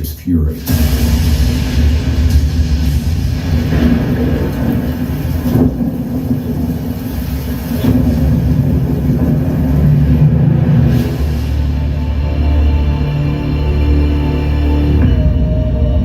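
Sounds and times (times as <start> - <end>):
deep bass rumble from soundbar: 0.0 - 16.0
sharp hits: 0.6 - 16.0.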